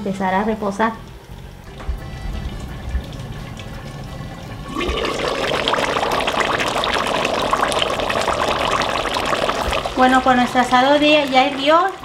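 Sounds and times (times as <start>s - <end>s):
stew boiling and bubbling: 0.6s - 12.0s.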